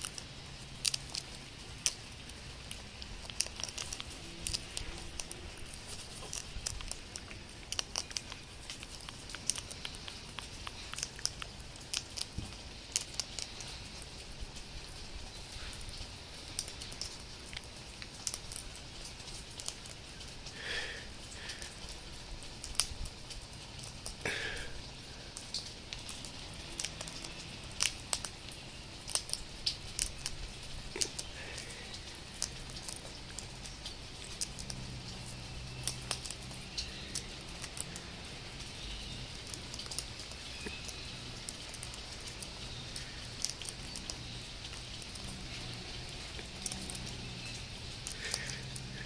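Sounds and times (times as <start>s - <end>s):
seeds cracking in beaks: 0.0s - 49.0s.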